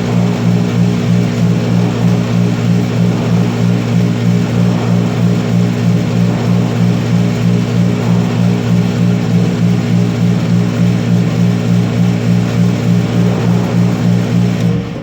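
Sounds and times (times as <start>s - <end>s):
loud low pulsing drone: 0.0s - 15.0s.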